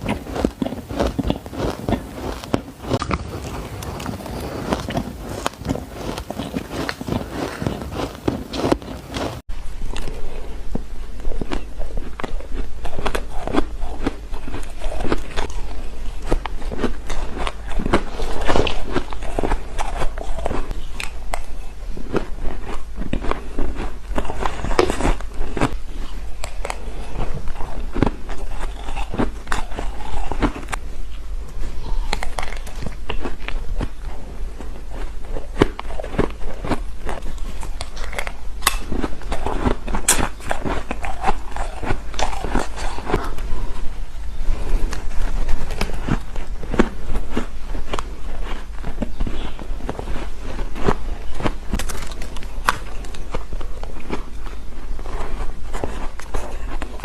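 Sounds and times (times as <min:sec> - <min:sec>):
chewing crunchy shaved ice: 0:00.0 - 0:10.4, 0:11.2 - 0:30.8, 0:31.7 - 0:57.0.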